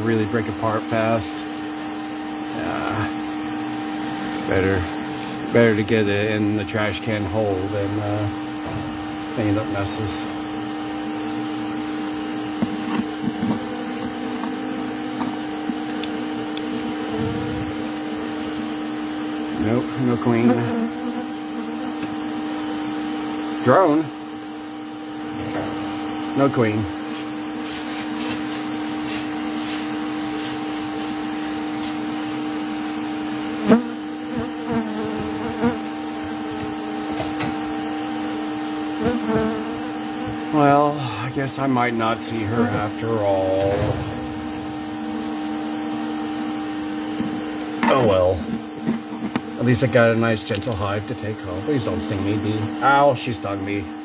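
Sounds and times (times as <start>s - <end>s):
honeybees buzzing: 0.0s - 54.0s
vacuum motor humming: 0.0s - 54.0s.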